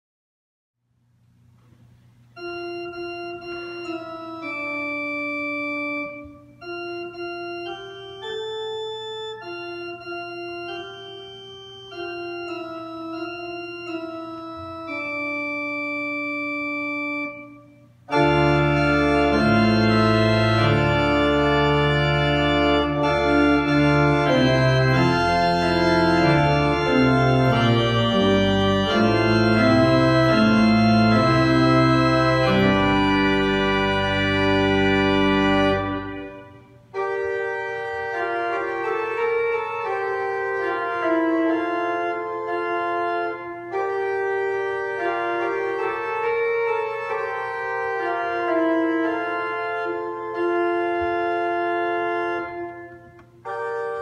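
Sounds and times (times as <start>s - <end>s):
church organ playing chords: 1.7s - 54.0s.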